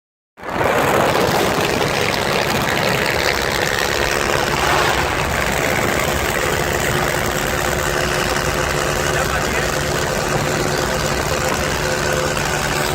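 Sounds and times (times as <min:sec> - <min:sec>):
motorcycle engines idling: 0:00.9 - 0:12.9.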